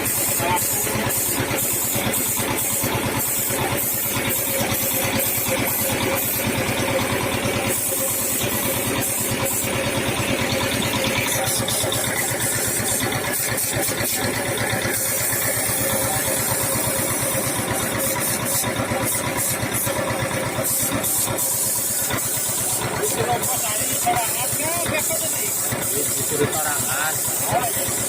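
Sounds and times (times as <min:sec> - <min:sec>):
air compressor running: 0:00.0 - 0:28.0
spray gun hissing: 0:00.0 - 0:28.0.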